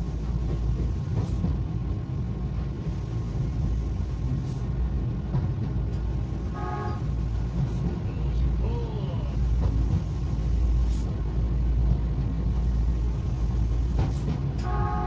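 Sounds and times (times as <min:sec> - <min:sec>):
train motors and wheels rumbling: 0:00.0 - 0:15.0.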